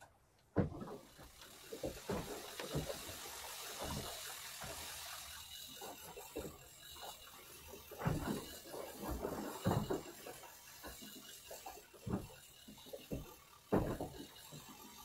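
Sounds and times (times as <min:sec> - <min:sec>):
water sloshing against boat hull: 0:00.6 - 0:15.0
steady hiss: 0:01.1 - 0:15.0.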